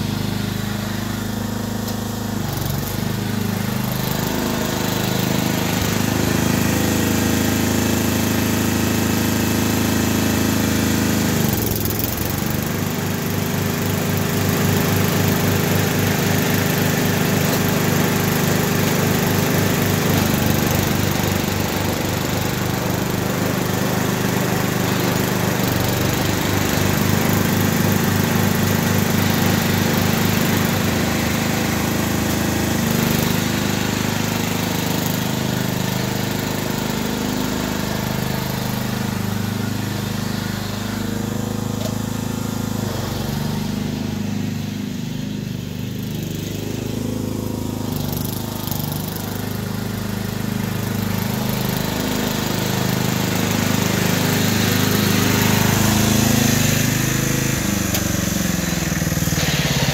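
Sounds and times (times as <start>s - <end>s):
riding lawn mower engine running: 0.0s - 59.9s.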